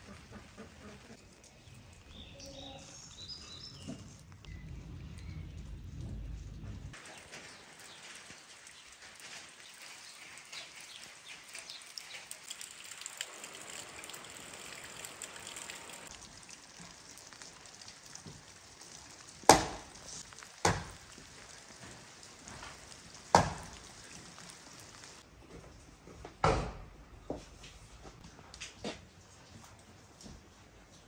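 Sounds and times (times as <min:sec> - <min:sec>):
steady rain falling: 0:00.0 - 0:25.3.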